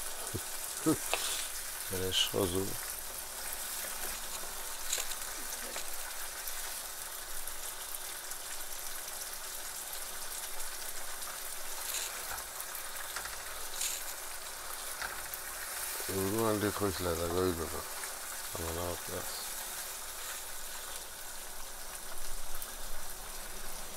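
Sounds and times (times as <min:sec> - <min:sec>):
curry sizzling in a wok: 0:00.0 - 0:23.9.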